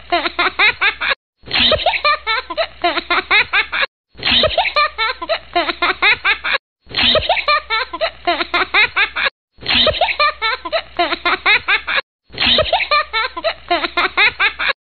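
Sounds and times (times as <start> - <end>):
person giggling: 0.0 - 14.8.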